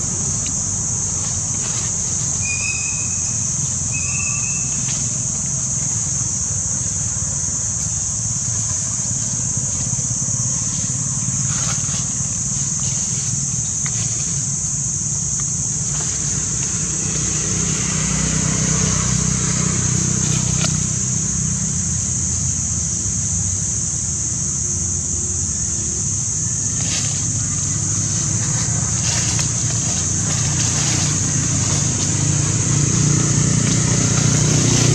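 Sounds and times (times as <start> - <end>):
high-pitched insect drone: 0.0 - 34.9.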